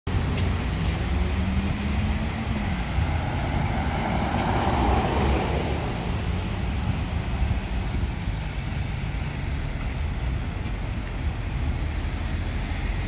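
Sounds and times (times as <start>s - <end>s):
road traffic rumble: 0.1s - 13.0s
vehicle passing: 0.1s - 13.0s.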